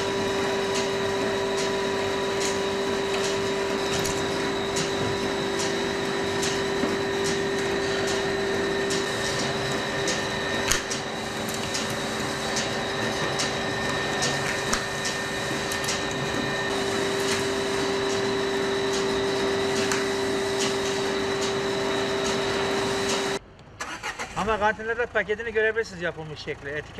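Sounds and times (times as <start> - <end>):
machinery humming: 0.0 - 23.4.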